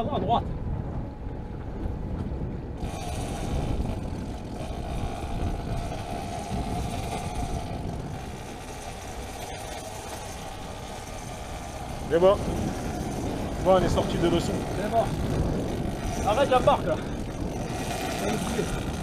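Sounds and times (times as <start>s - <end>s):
boat motor low rumble: 0.0s - 19.0s
motor hum and hiss: 2.7s - 19.0s.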